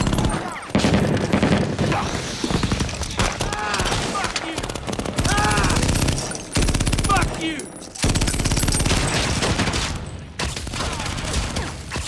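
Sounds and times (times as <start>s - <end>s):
automatic rifle fire in bursts: 0.0s - 7.4s, 8.0s - 11.9s.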